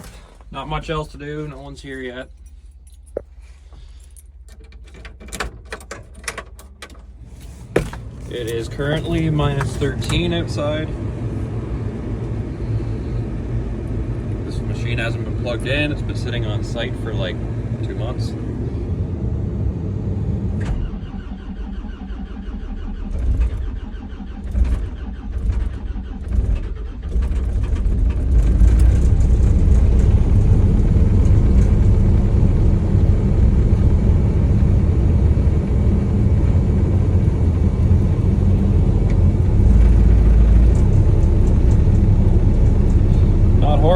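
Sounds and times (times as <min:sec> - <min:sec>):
diesel engine running: 0:07.1 - 0:43.9.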